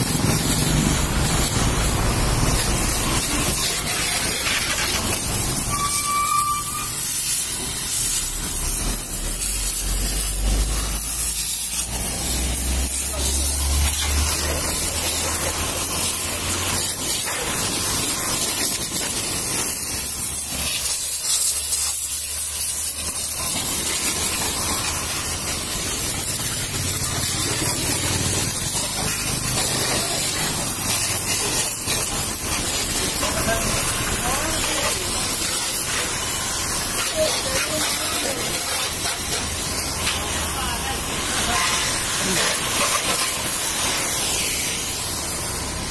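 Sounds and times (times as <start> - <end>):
pressure washer spraying metal: 0.0 - 45.9.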